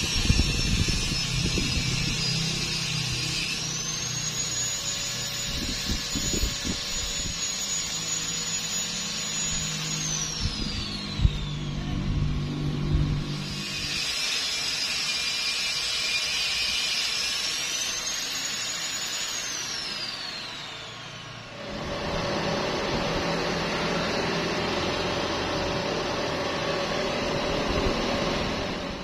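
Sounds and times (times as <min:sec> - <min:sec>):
power tool whining: 0:00.0 - 0:29.0.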